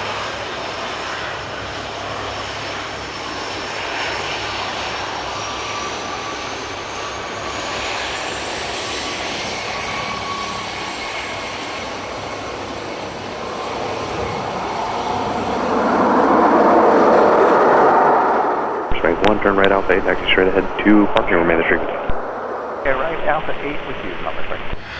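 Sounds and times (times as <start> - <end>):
jet engines whining: 0.0 - 24.9.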